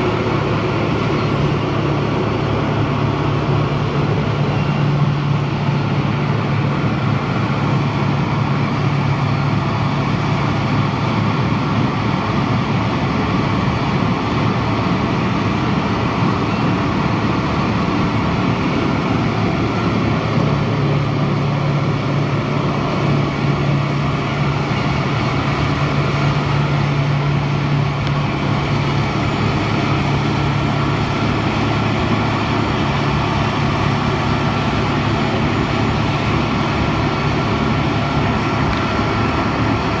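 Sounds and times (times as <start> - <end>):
diesel engine humming under load: 0.0 - 40.0.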